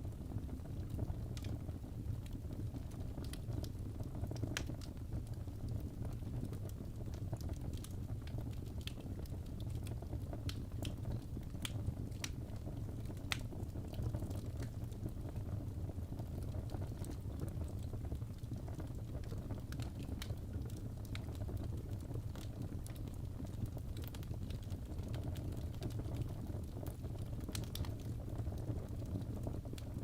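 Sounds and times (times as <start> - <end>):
burning wood crackling and popping: 0.0 - 30.0
low rumble of flames: 0.0 - 30.0.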